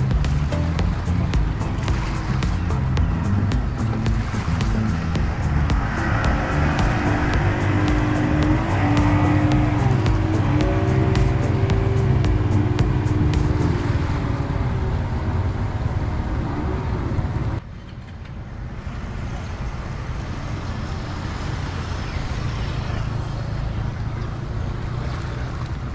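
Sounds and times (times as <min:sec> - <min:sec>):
outdoor background noise: 0:00.0 - 0:25.9
speedboat engines rumbling: 0:00.0 - 0:25.9.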